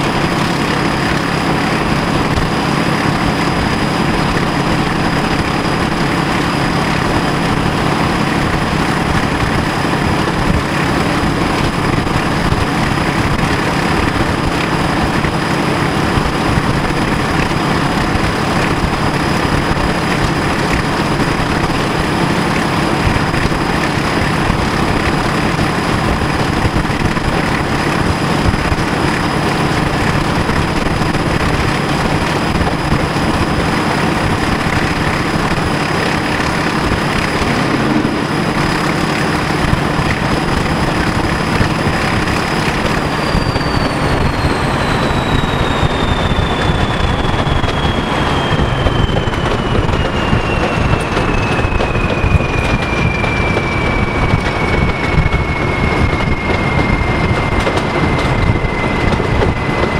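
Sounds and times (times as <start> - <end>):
diesel locomotive engine running: 0.0 - 59.9
running gear rumble: 0.0 - 59.9.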